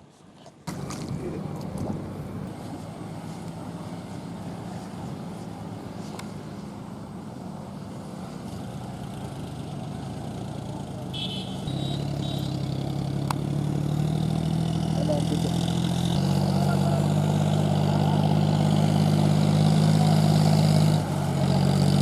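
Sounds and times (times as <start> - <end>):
tractor diesel engine running: 0.7 - 22.0.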